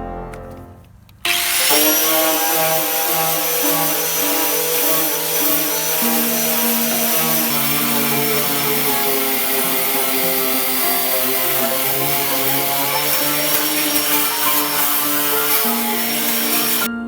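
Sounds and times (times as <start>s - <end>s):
power tool hissing and whining: 1.3s - 17.0s.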